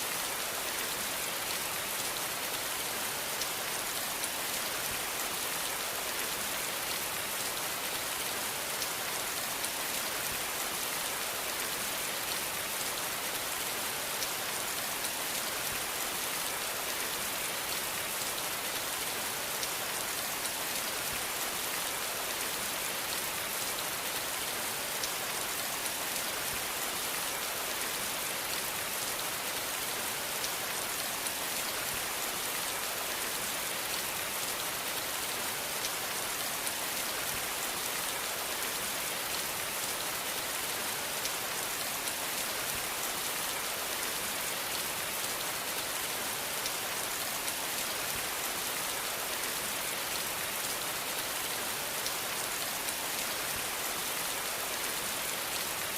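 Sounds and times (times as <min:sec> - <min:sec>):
rain falling on a surface: 0:00.0 - 0:55.9.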